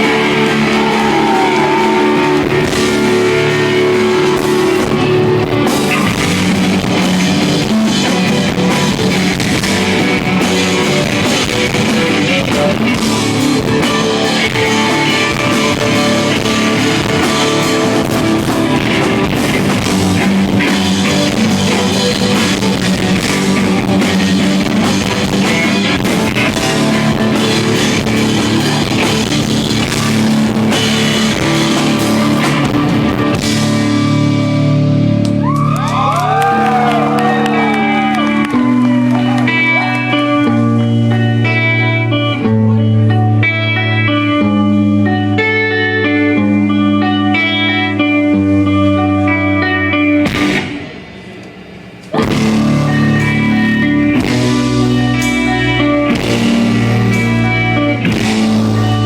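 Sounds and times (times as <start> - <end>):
drum kit: 0.0 - 42.4, 50.0 - 59.0
electric guitars: 0.0 - 59.0.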